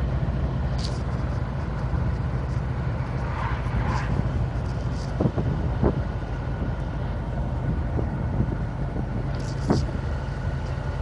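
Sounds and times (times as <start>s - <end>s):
truck engine and tyres droning: 0.0s - 11.0s.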